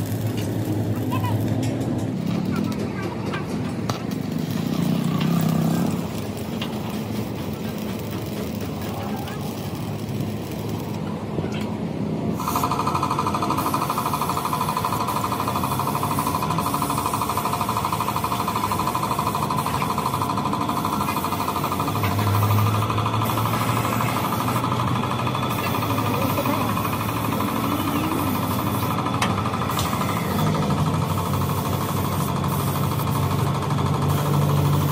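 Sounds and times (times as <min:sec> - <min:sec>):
power tool rattling buzz: 0:00.0 - 0:11.1, 0:12.4 - 0:34.9.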